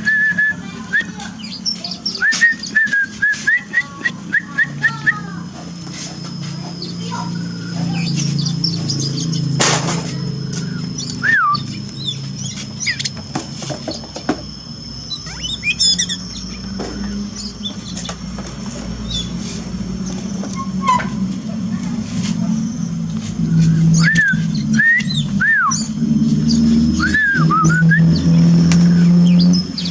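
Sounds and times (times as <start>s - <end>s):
low hum: 0.0s - 29.9s
songbird chirping and whistling: 0.0s - 29.9s
steady high thin tone: 0.0s - 29.9s.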